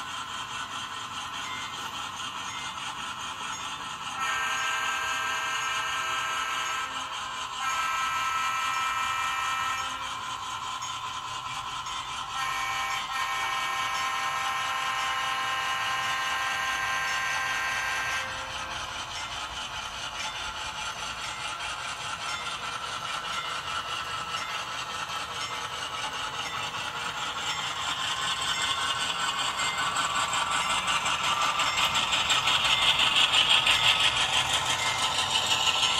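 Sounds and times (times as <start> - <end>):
model train motor whine: 0.0 - 35.9
model train wheels clattering: 0.0 - 35.9.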